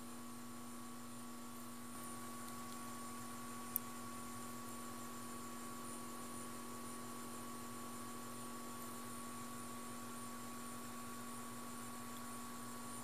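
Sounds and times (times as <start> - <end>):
electrical hum: 0.0 - 13.0
faint hiss: 0.0 - 13.0.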